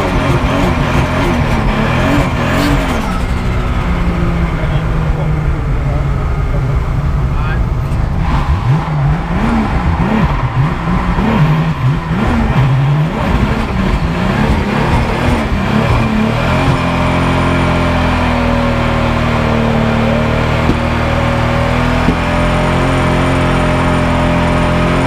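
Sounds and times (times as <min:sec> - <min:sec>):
race car engine revving: 0:00.0 - 0:25.0.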